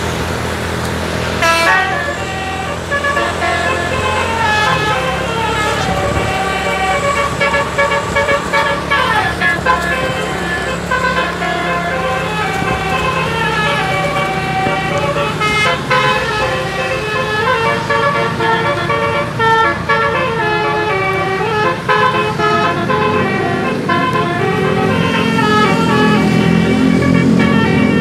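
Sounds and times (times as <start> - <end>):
low engine hum: 0.0 - 28.0
multi-trumpet air horn tune: 1.4 - 28.0.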